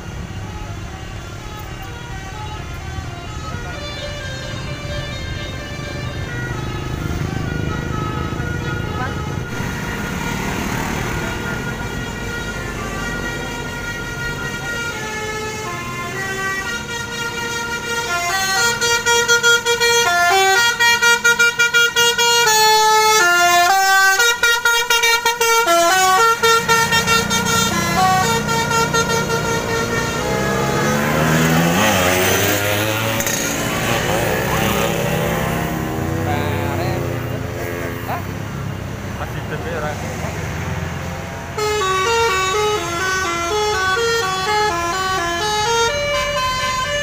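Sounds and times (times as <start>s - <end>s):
musical air horn playing tune: 0.0s - 38.0s, 41.5s - 47.0s
bus diesel engine running: 0.0s - 47.0s.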